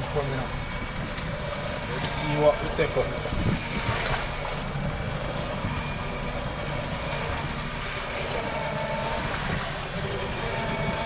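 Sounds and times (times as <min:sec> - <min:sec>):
sea noise: 0:00.0 - 0:11.0
wind: 0:00.0 - 0:11.0
wind buffeting microphone: 0:00.0 - 0:11.0.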